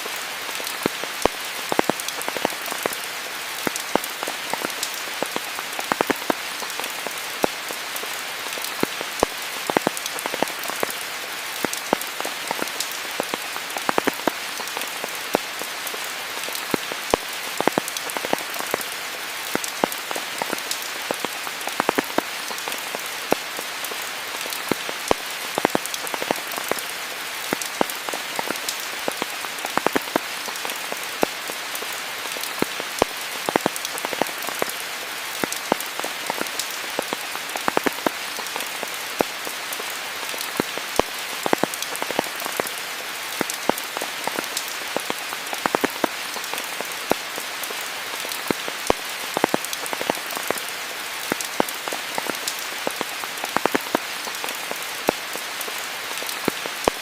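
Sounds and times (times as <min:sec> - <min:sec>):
rain falling on foliage: 0:00.0 - 0:57.0
raindrops ticking: 0:00.4 - 0:57.0.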